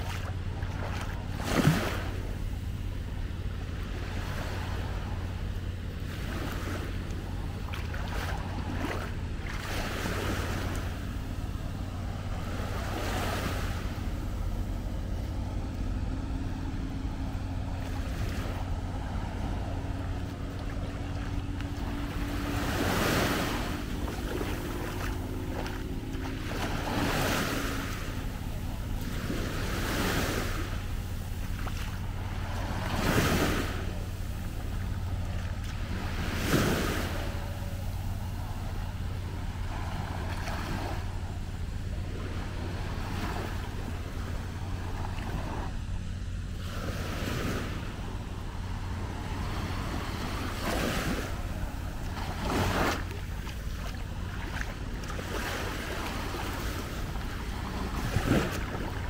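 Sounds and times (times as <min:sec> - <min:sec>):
small waves breaking on beach: 0:00.0 - 0:59.0
steady low rumble: 0:00.0 - 0:59.0.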